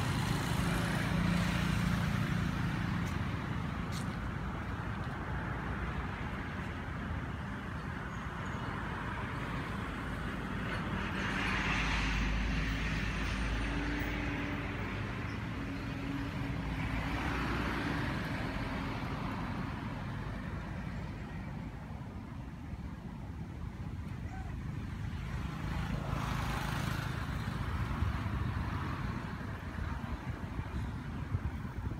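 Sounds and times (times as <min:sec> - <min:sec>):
road traffic rumble: 0:00.0 - 0:31.9
vehicles passing: 0:00.0 - 0:31.9.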